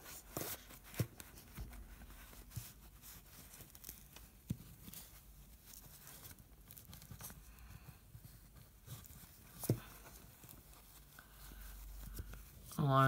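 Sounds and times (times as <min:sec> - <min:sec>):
cloth rustling: 0:00.0 - 0:13.0.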